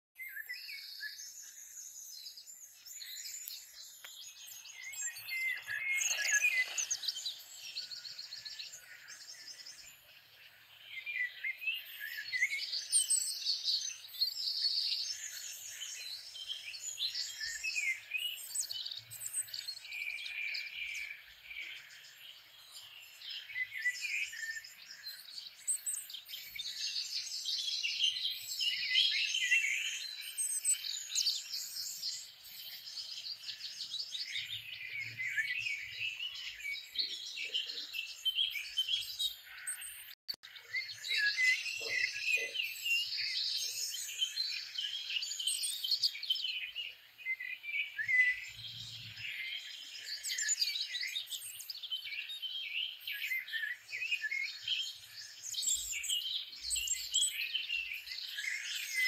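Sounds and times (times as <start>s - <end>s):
songbirds chirping and singing: 0.2s - 59.0s.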